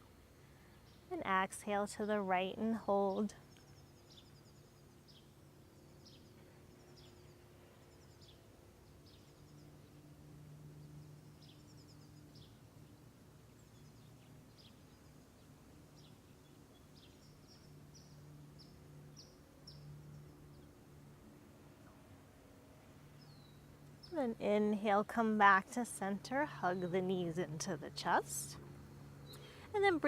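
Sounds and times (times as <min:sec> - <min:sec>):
faint birds chirping: 0:00.0 - 0:29.8
low steady hum: 0:00.0 - 0:30.0.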